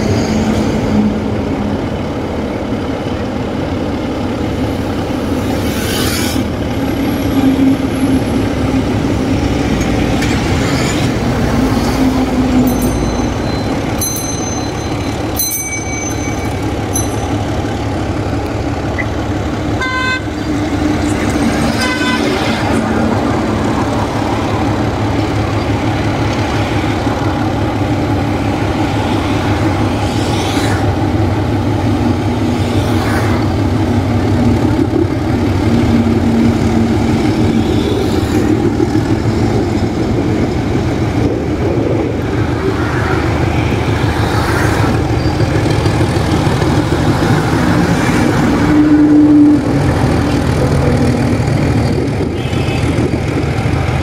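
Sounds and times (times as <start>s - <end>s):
diesel locomotive engine throbbing: 0.0s - 54.0s.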